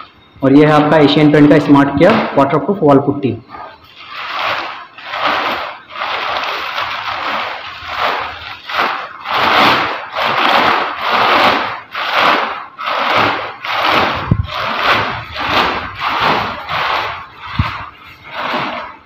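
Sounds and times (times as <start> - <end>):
plastic liner crinkling: 3.4 - 19.0.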